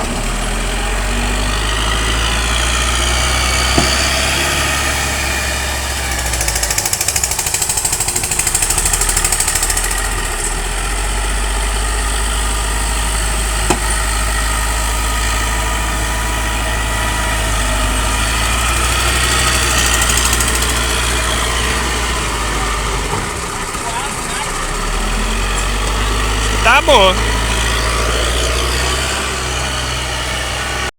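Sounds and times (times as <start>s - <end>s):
truck engine idling: 0.0s - 30.8s.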